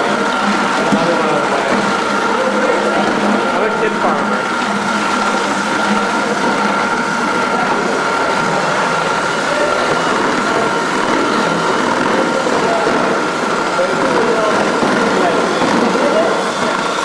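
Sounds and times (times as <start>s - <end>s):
high whine: 0.0s - 17.0s
motor running: 0.0s - 17.0s.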